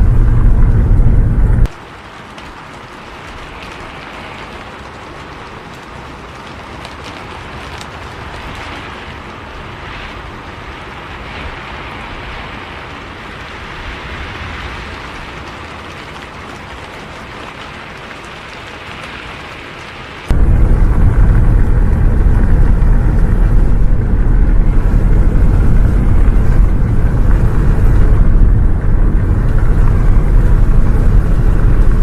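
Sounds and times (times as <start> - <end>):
bus running on road: 0.0 - 1.8, 6.4 - 32.0
steady rain: 0.0 - 32.0.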